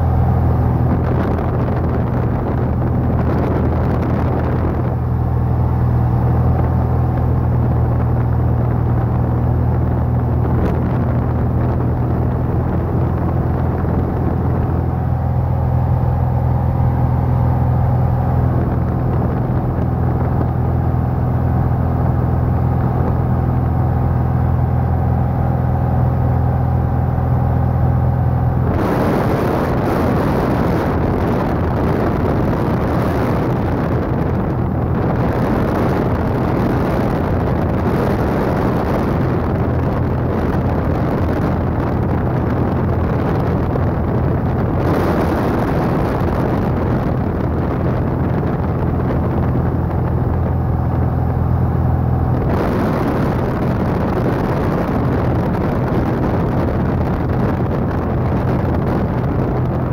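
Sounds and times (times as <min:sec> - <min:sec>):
light aircraft engine droning: 0:00.0 - 0:59.9
loud rushing air noise: 0:00.0 - 0:59.9.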